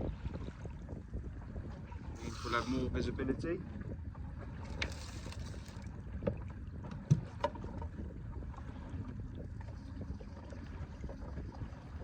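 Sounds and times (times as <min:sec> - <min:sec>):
water around boat: 0:00.0 - 0:12.0
wind: 0:00.0 - 0:12.0.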